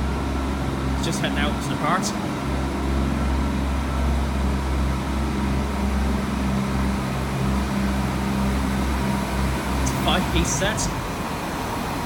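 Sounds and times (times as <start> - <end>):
diesel train engine humming: 0.0 - 12.0.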